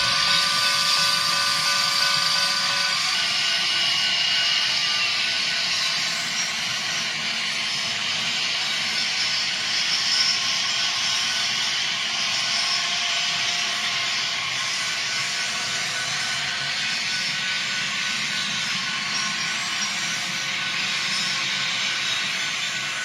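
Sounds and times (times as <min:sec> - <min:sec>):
model train whirring: 0:00.0 - 0:23.0.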